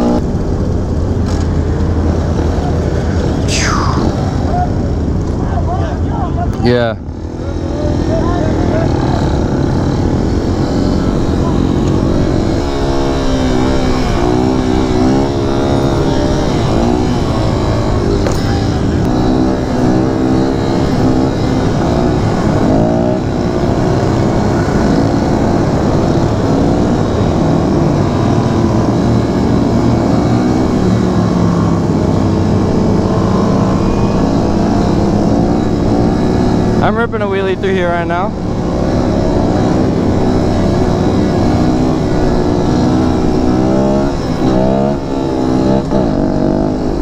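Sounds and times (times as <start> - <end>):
motorcycle engine revving: 6.8 - 47.0.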